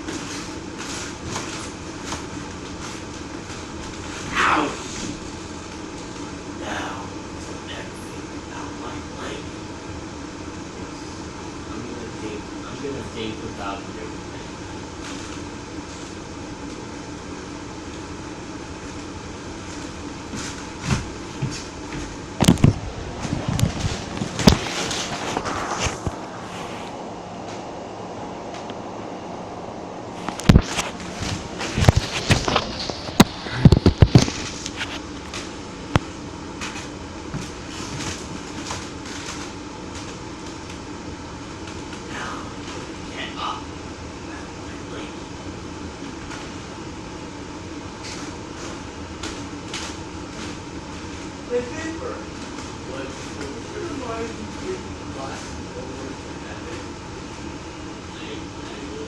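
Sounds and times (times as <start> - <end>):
background hum: 0.0 - 59.0
low background rumble: 0.0 - 59.0.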